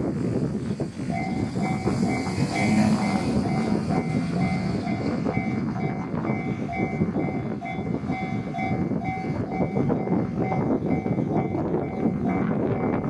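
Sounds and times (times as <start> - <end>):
diesel train passing: 0.0 - 13.0
level crossing warning bell: 1.1 - 13.0.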